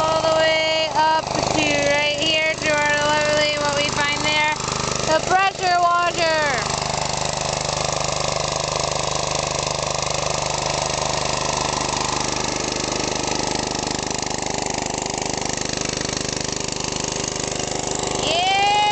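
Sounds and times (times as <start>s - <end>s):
pressure washer engine running: 0.0s - 18.9s.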